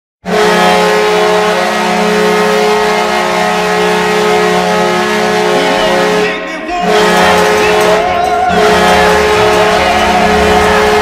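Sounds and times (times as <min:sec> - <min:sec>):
low arena goal horn: 0:00.2 - 0:11.0.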